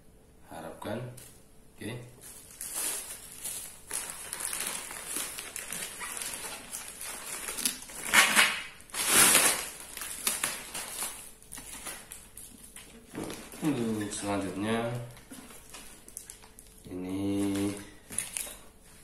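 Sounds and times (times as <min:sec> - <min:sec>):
plastic bag rustling and crinkling: 0:02.2 - 0:19.0.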